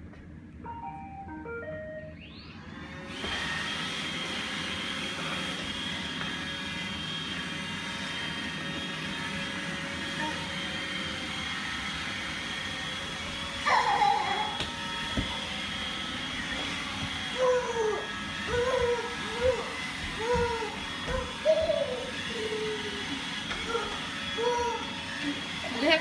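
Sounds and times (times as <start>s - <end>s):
robot vacuum motor humming: 2.3s - 26.0s.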